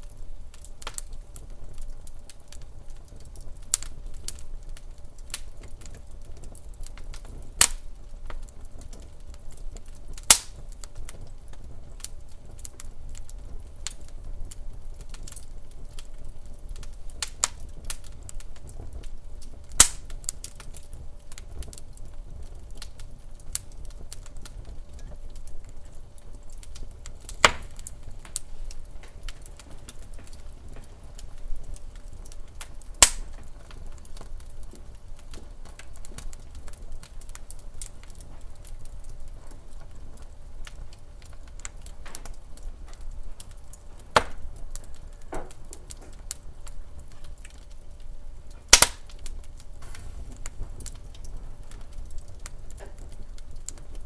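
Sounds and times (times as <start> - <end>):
low rumble of burning: 0.0 - 54.0
sharp pops of fire: 0.0 - 54.0
wood fire crackling: 0.0 - 54.0.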